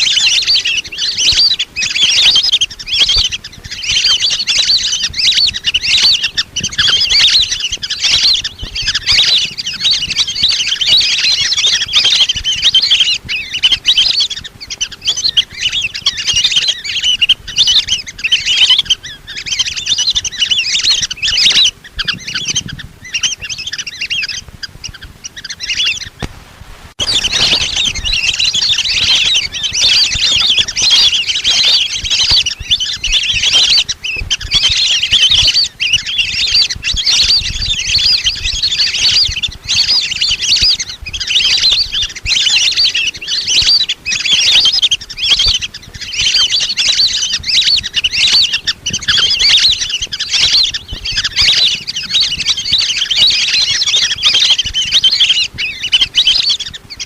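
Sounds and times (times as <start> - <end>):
ducks whistling calls: 0.0 - 26.3, 27.0 - 57.0.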